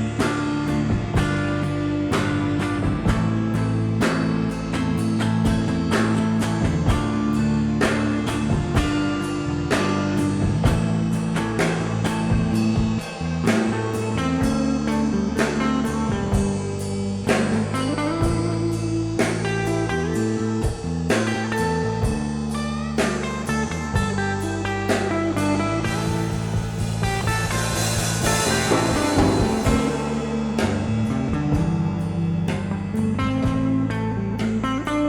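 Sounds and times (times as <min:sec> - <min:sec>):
steady drum beat: 0:00.0 - 0:34.5
bass: 0:00.0 - 0:35.0
guitar: 0:00.0 - 0:35.0.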